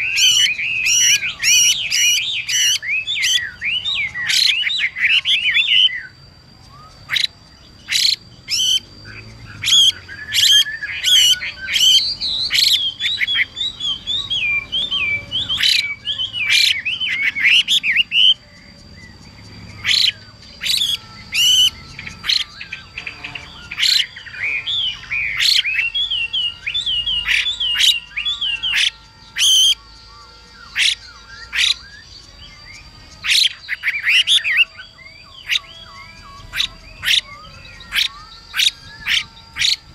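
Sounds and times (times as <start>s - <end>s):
bird calling and singing: 0.0s - 39.9s.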